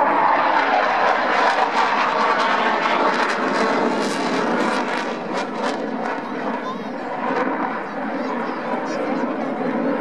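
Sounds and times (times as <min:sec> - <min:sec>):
loud jet engine noise: 0:00.0 - 0:10.0.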